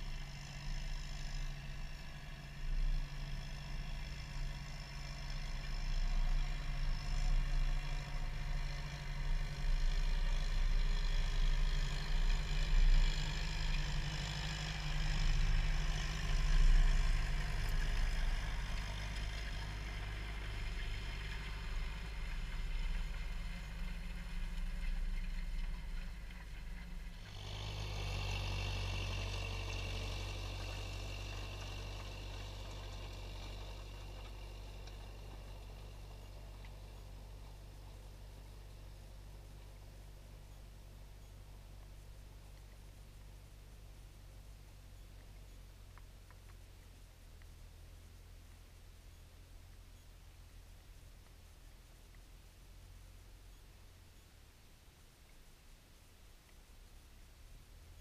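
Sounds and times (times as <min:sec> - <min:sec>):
tractor diesel engine running: 0:00.0 - 0:55.2.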